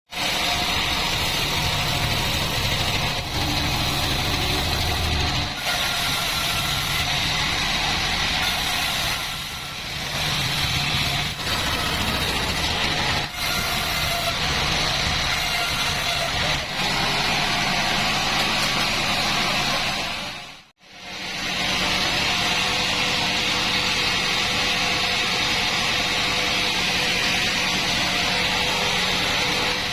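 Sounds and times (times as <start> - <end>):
bandsaw cutting logs: 0.2 - 29.9.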